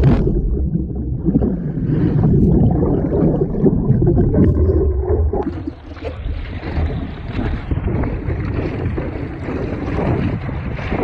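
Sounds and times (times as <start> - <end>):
muffled underwater churning: 0.0 - 11.0
water splashing: 0.0 - 11.0.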